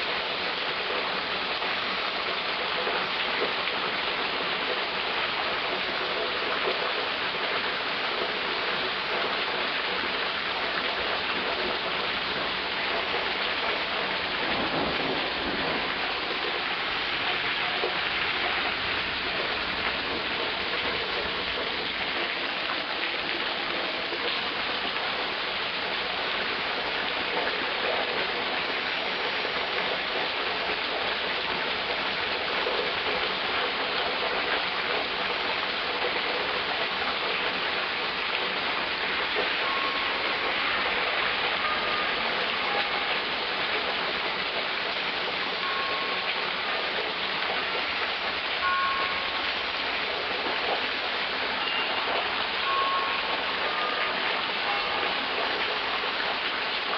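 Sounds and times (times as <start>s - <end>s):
heavy rain on a street: 0.0s - 56.9s.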